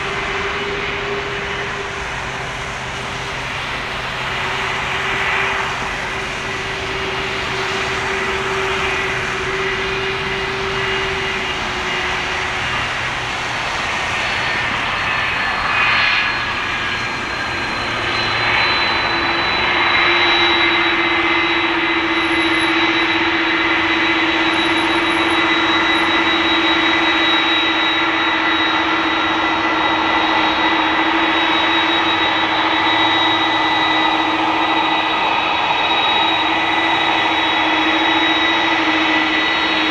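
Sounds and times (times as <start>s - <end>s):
jet engines roaring and whining: 0.0s - 39.9s.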